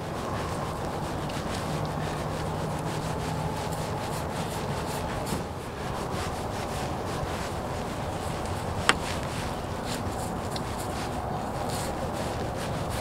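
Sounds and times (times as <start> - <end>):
paintbrush scrubbing wood: 0.0 - 13.0.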